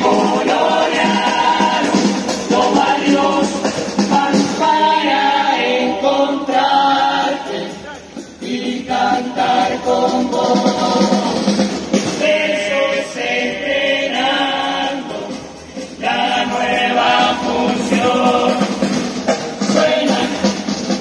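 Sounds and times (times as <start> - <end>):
light percussion beat: 0.0 - 5.8, 6.5 - 13.4, 14.0 - 21.0
choir singing in harmony: 0.0 - 21.0.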